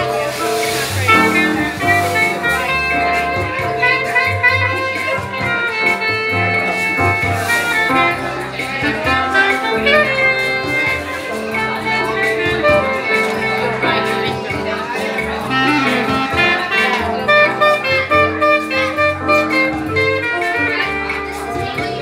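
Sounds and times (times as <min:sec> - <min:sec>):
keyboard accompaniment: 0:00.0 - 0:22.0
soprano saxophone melody: 0:00.0 - 0:22.0.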